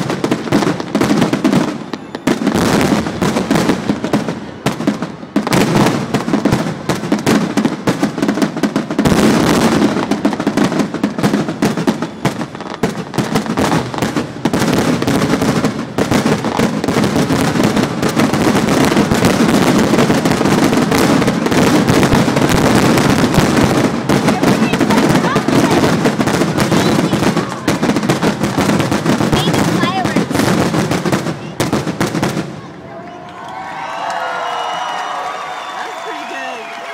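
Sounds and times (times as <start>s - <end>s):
fireworks booms and crackles: 0.0s - 32.9s.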